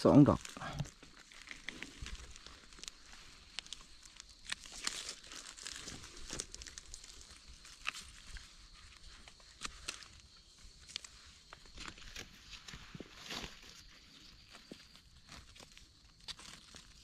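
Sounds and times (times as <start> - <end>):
dry leaves rustling and crackling: 0.1 - 10.2, 10.8 - 17.0.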